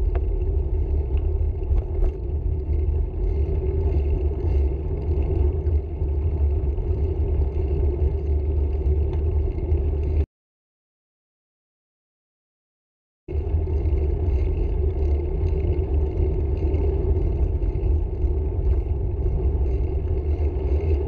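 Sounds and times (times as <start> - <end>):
vehicle rumble and road noise: 0.0 - 10.2, 13.3 - 21.0.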